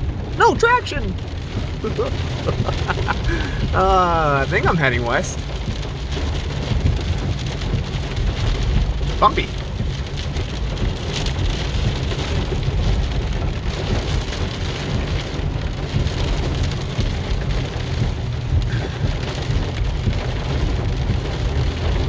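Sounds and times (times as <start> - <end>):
car and road rumble: 0.0 - 22.0
rain on car roof: 0.0 - 22.0.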